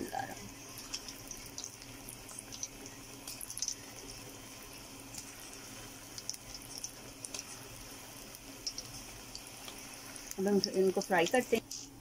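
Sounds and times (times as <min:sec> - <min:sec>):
food deep-frying with sizzle: 0:00.0 - 0:12.0
sharp crackles and pops: 0:00.0 - 0:12.0.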